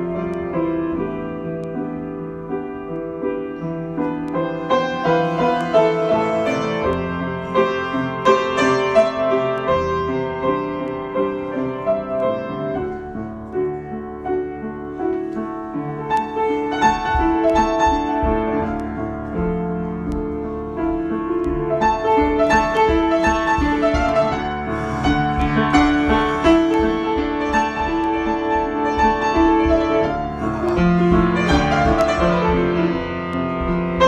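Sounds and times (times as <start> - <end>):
solo piano: 0.0 - 34.0.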